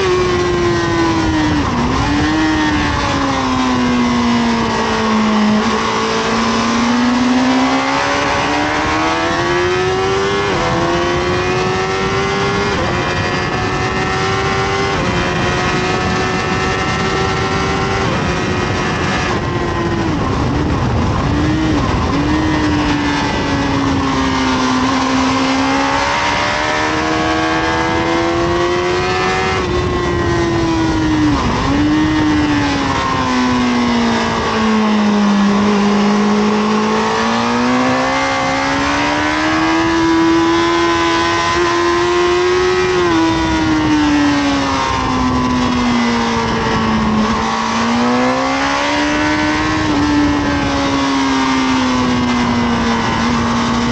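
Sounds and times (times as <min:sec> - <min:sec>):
motorcycle engine running hard: 0:00.0 - 0:53.9
wind rush: 0:00.0 - 0:53.9.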